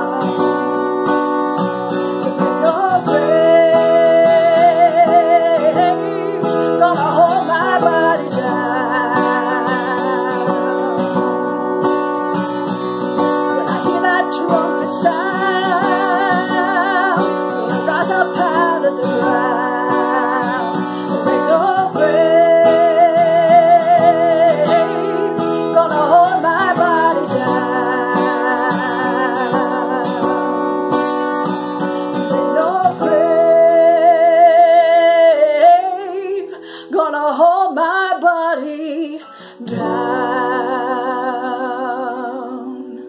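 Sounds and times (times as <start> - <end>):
acoustic guitar strumming: 0.0 - 43.0
woman singing: 0.0 - 43.0.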